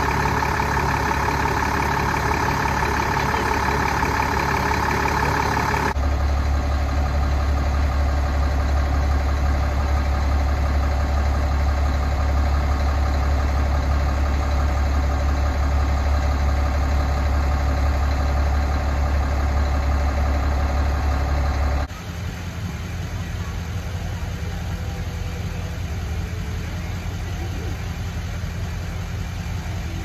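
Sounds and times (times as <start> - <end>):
fire engine idling: 0.0 - 30.0.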